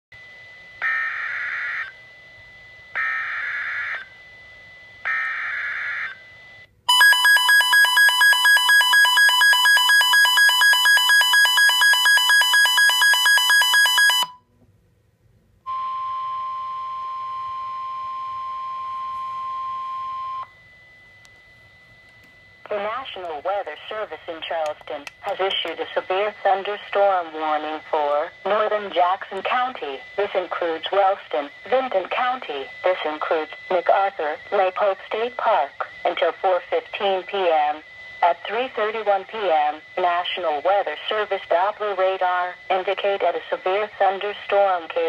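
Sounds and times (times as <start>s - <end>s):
steady single-pitched alarm tone: 0.2s - 14.5s, 15.7s - 23.0s, 27.8s - 45.0s.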